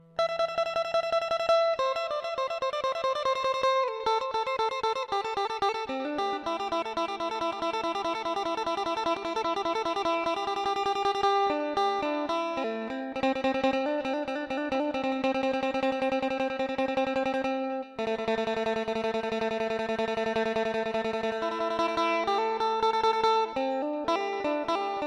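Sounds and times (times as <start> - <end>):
plucked guitar picking notes: 0.0 - 25.0.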